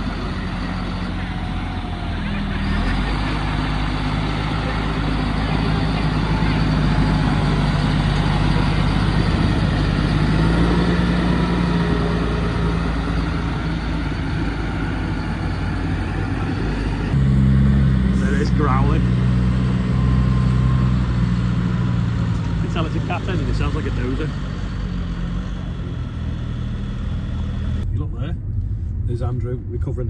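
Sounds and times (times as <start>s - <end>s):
tractor engine running: 0.0s - 27.9s
deeper louder engine: 0.0s - 30.0s.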